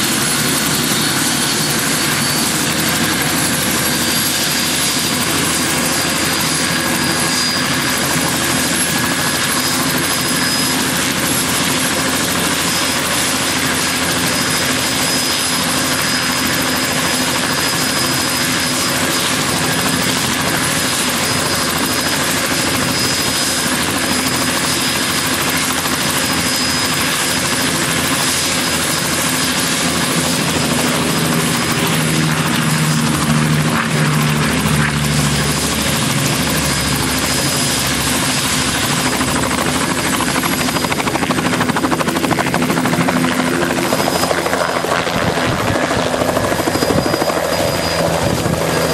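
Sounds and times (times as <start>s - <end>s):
helicopter rotor and engine: 0.0s - 48.9s
helicopter turbine whine: 0.0s - 48.9s.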